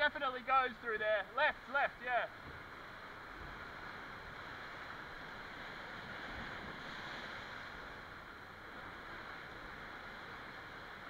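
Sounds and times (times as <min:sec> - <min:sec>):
sea surf breaking against cliff: 0:00.0 - 0:11.0.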